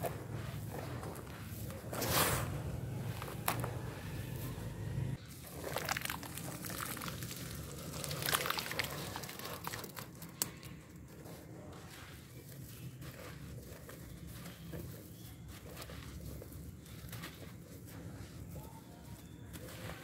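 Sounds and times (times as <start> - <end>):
hands squishing paste: 0.0 - 20.0.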